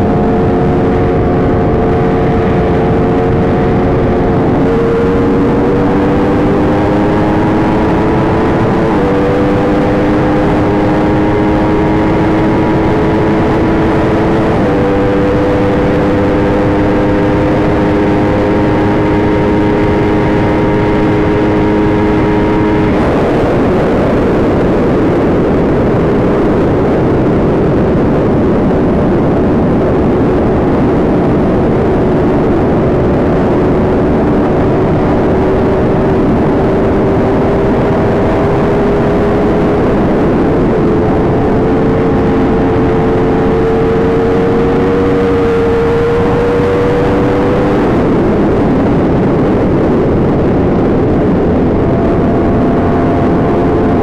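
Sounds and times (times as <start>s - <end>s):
motorcycle engine running: 0.0s - 54.0s
rush of wind noise: 0.0s - 54.0s.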